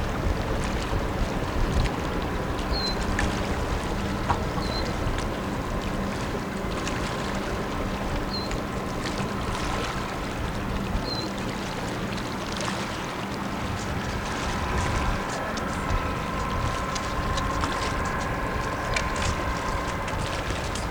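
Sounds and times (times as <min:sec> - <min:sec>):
tugboat diesel engines droning: 0:00.0 - 0:20.9.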